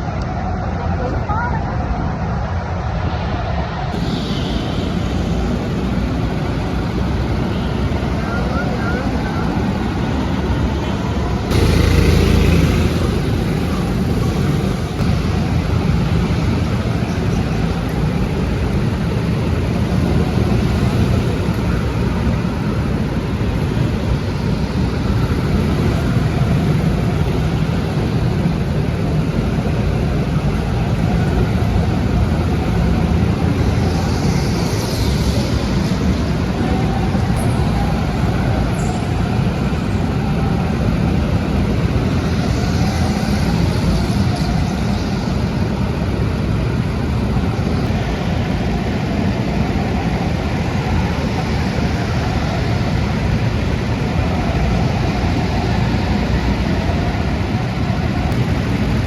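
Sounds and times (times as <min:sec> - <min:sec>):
moving vehicle rumbling: 0:00.0 - 0:59.0.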